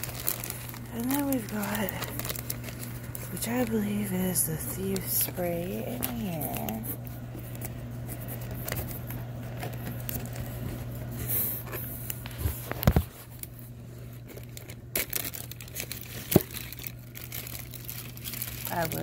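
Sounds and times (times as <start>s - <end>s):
low steady hum: 0.0s - 19.0s
plastic bag crinkling: 0.0s - 19.0s.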